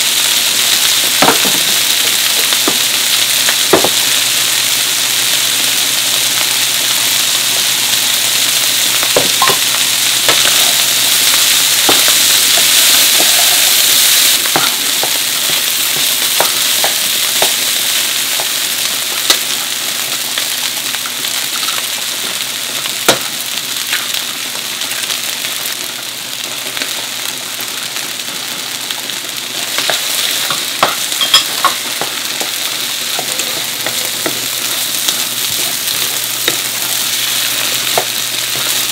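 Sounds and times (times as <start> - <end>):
fried rice sizzling in wok: 0.0 - 38.9.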